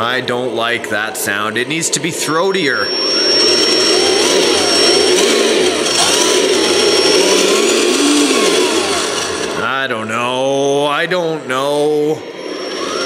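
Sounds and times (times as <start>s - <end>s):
simulated diesel engine revving: 0.0s - 13.0s
thin gliding whine: 0.0s - 13.0s.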